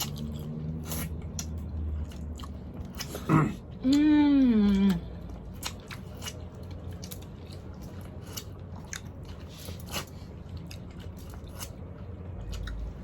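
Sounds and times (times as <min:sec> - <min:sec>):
chewing: 0:00.0 - 0:04.1, 0:04.7 - 0:13.0
low steady hum: 0:00.0 - 0:13.0.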